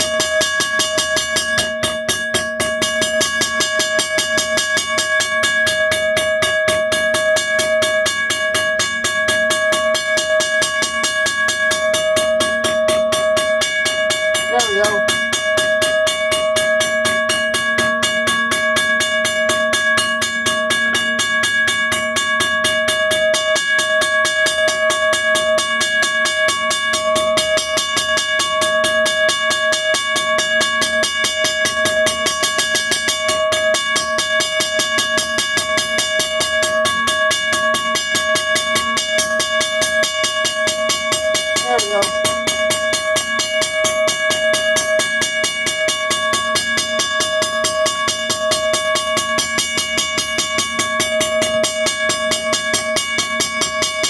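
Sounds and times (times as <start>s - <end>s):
railroad crossing bell ringing: 0.0s - 54.0s.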